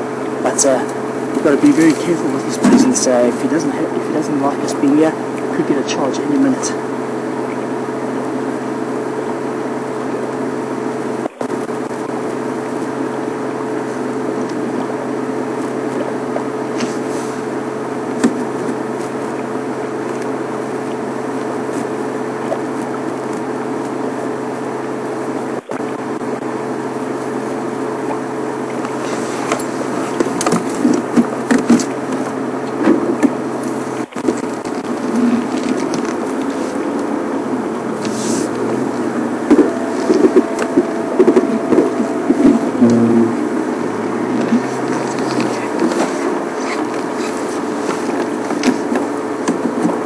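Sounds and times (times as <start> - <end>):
vehicle engine idling: 0.0 - 50.0.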